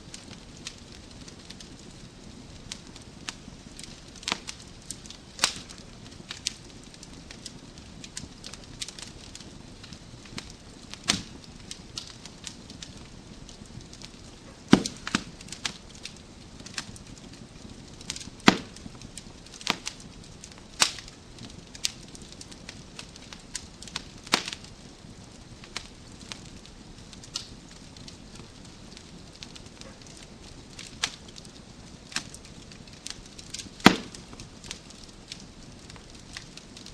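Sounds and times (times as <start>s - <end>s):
logs crackling and popping in fire: 0.0s - 36.9s
soft steady hiss: 0.0s - 36.9s.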